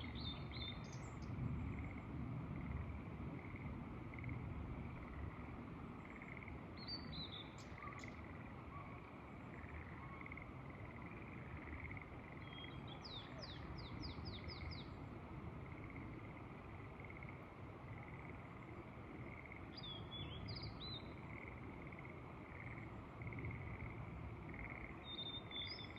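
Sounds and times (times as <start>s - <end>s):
frogs trilling: 2.6s - 15.0s, 15.6s - 25.9s.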